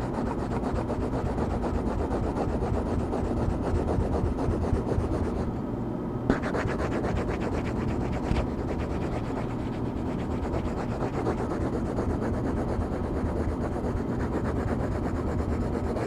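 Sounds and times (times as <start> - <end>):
coloring strokes scratching paper: 0.0 - 5.5, 6.3 - 16.0.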